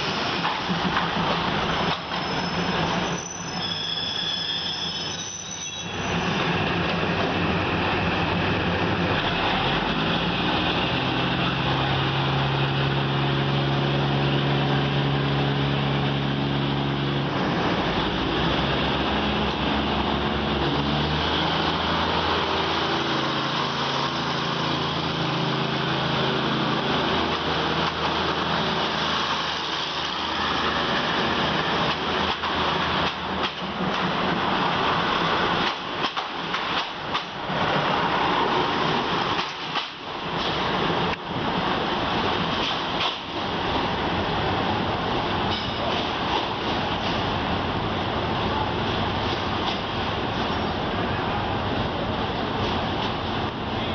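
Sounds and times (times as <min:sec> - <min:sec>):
diesel train engine humming: 0:06.0 - 0:53.9.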